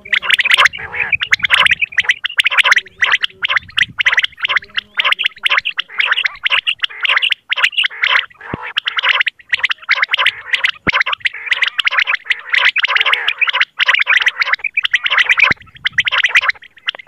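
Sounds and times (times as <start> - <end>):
quail calling: 0.0 - 17.0.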